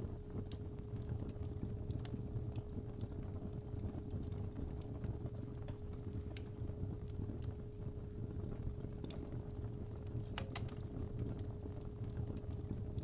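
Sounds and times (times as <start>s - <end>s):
fire crackling and popping: 0.0s - 13.0s
low steady rumble: 0.0s - 13.0s.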